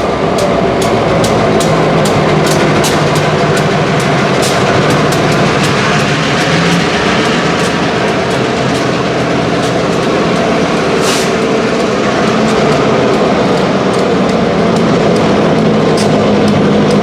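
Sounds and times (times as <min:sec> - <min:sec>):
freight train rumble: 0:00.0 - 0:17.0
low locomotive drone: 0:00.0 - 0:17.0
train wheels clicking over rail joints: 0:00.0 - 0:17.0.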